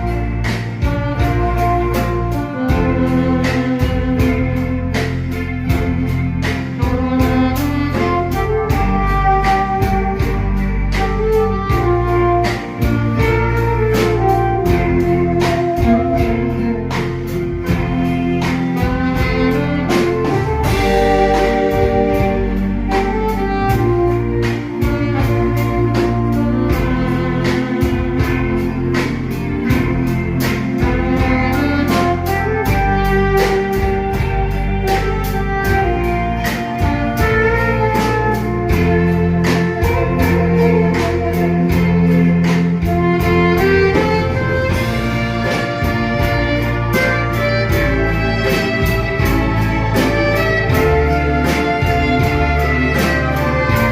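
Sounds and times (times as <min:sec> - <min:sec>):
band playing a ballad: 0:00.0 - 0:53.9
steady drum beat: 0:00.0 - 0:53.9.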